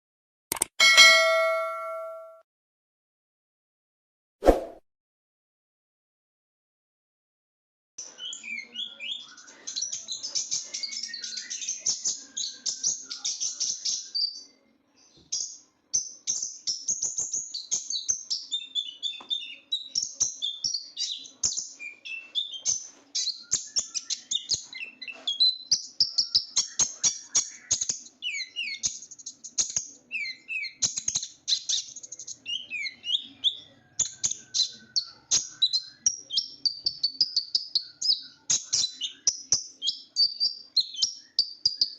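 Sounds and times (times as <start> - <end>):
sunbird chirping and trilling: 8.0 - 41.9.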